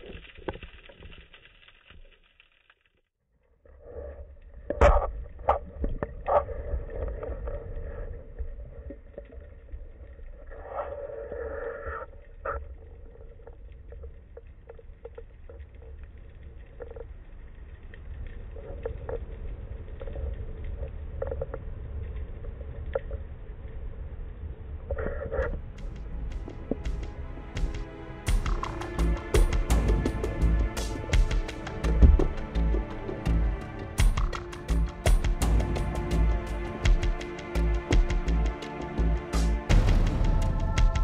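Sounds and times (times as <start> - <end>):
underwater rumble of moving water: 3.8 - 41.0.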